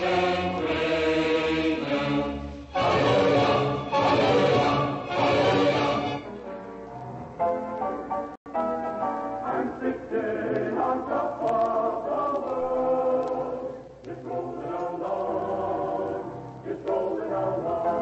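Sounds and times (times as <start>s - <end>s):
choir singing: 0.0s - 6.2s, 9.4s - 18.0s.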